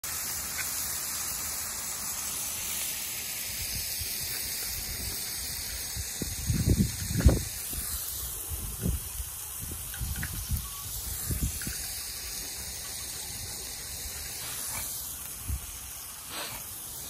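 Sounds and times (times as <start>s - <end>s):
burger patties sizzling on griddle: 0.0s - 17.0s.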